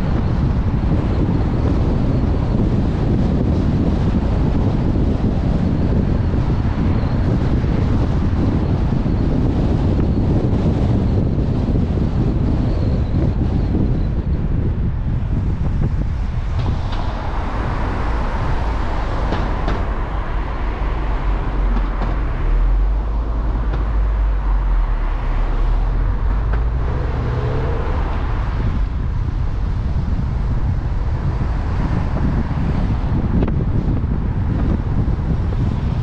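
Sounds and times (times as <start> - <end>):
vehicle engine hum passing: 0.0 - 36.0
wind rumble on microphone: 0.0 - 36.0.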